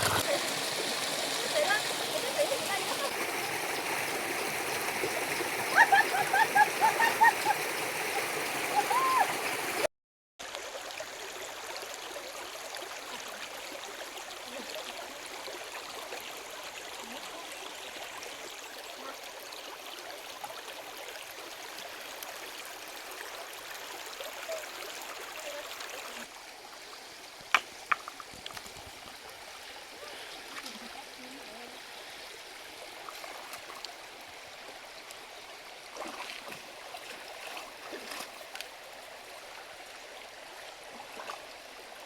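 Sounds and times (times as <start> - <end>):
stream water rushing and gurgling: 0.0 - 42.0.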